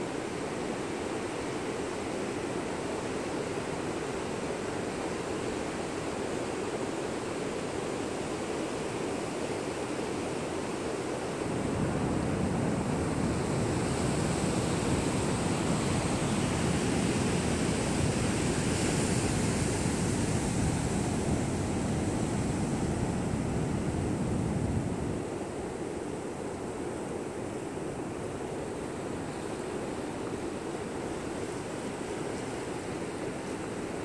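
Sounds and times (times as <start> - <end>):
waves breaking on beach: 0.0 - 34.0.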